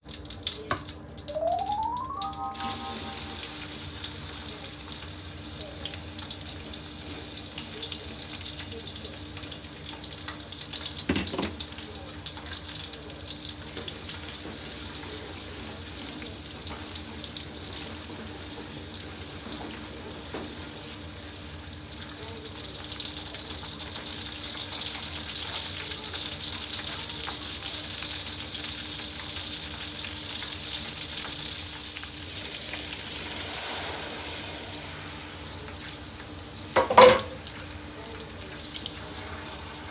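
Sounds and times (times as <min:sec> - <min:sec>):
food sizzling in hot oil: 0:01.3 - 0:39.9.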